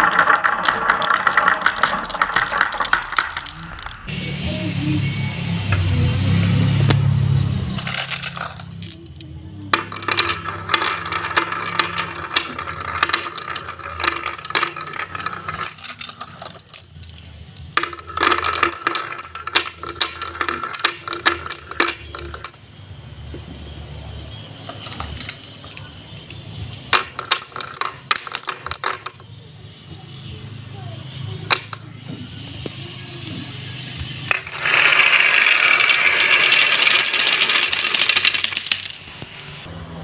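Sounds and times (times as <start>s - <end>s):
marbles clattering along a track: 0.0s - 4.1s, 7.7s - 23.5s, 24.5s - 39.7s.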